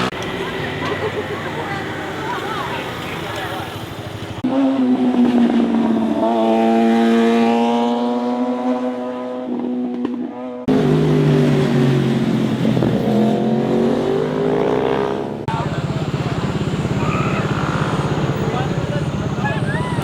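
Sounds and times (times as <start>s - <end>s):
motorcycle engines revving high: 0.0s - 20.0s.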